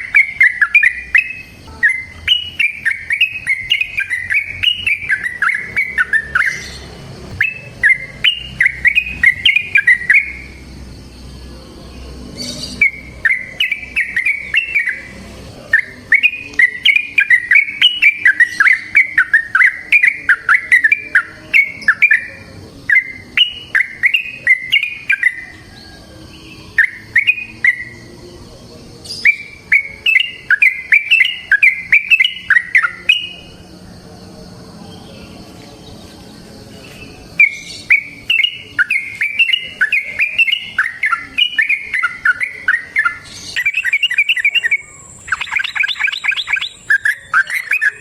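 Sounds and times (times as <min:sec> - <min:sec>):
bird singing warbling notes: 0:00.0 - 0:33.7, 0:35.0 - 0:48.0.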